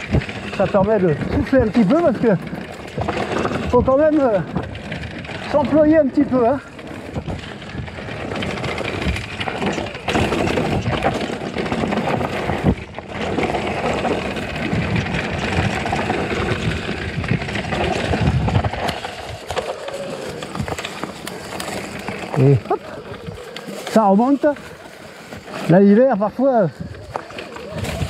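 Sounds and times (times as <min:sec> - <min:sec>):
bike knocking and rattling: 0:00.0 - 0:28.0
tyres crunching over dirt and stones: 0:00.0 - 0:28.0.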